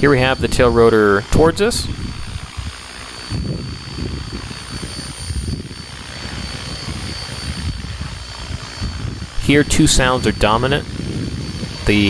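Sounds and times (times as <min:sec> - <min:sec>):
helicopter transmission high tones: 0:00.0 - 0:12.0
low uneven main rotor sound: 0:00.0 - 0:12.0.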